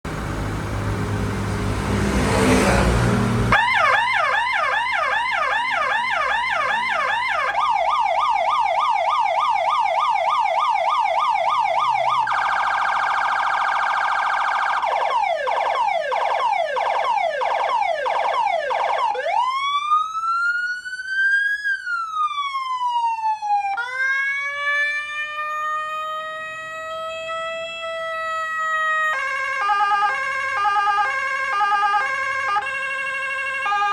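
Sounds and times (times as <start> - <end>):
electronic siren: 2.4 - 33.9.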